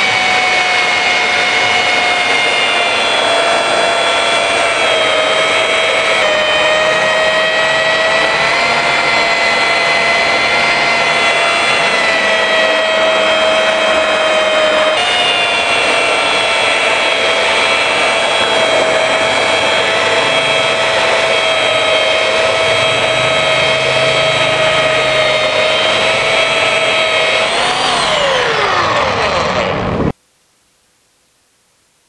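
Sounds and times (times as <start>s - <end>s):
belt sander motor whine: 0.0s - 30.2s.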